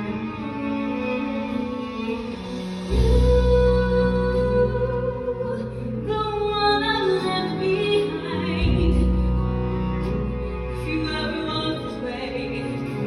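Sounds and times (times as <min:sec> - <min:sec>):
band accompaniment with low bass: 0:00.0 - 0:13.0.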